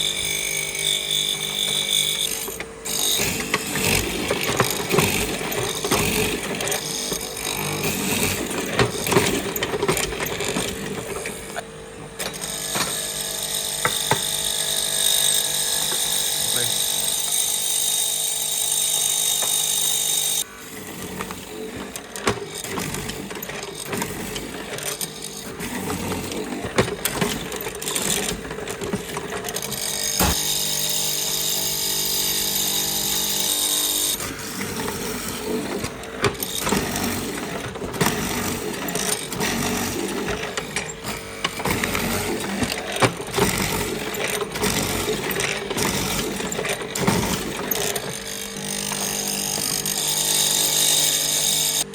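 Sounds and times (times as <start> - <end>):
clicks from hand work: 0.0 - 20.4, 21.1 - 51.9
woodworking power tool running: 0.0 - 51.9.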